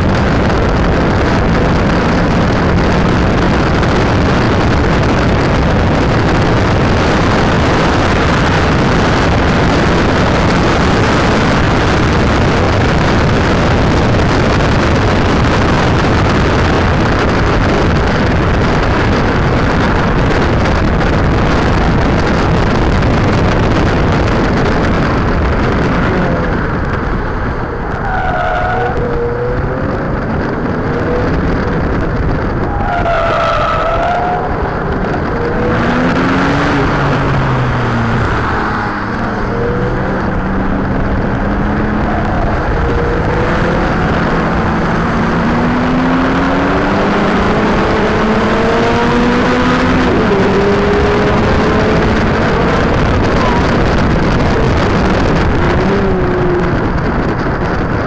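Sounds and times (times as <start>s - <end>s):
car engine at speed: 0.0s - 58.0s
wind and road noise: 0.0s - 58.0s.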